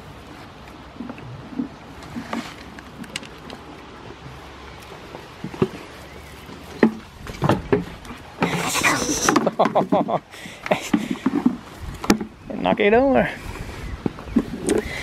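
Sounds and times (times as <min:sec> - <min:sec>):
faint steady background noise: 0:00.0 - 0:15.0
goats knocking and tapping: 0:00.9 - 0:13.1.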